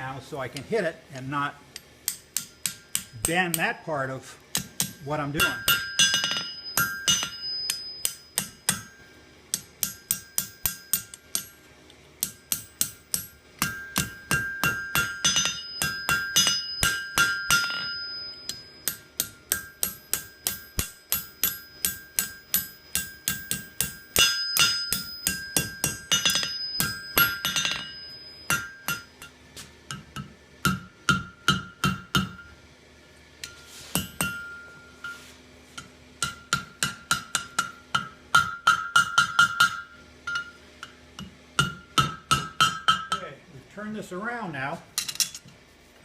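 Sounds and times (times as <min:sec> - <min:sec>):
hammer striking steel on anvil: 0:01.7 - 0:32.6, 0:33.4 - 0:43.4
anvil ringing: 0:02.0 - 0:11.6, 0:12.2 - 0:32.6, 0:33.4 - 0:41.0, 0:41.6 - 0:43.4.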